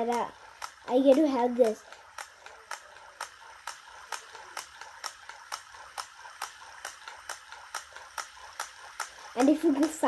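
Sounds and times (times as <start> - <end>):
gyro wheel toy clicking on rail: 0.0 - 10.0.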